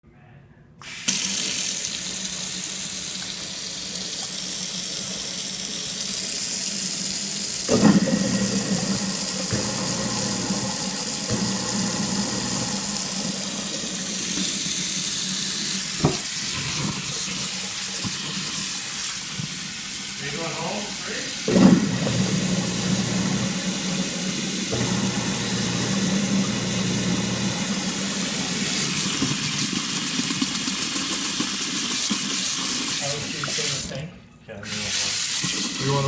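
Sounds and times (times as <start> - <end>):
water running from sink tap: 0.8 - 36.0.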